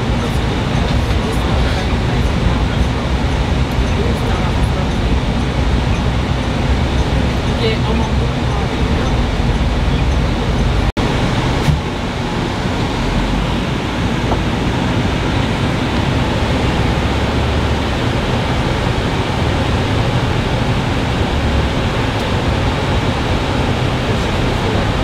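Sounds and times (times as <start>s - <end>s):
bus engine and tyre rumble: 0.0s - 25.0s.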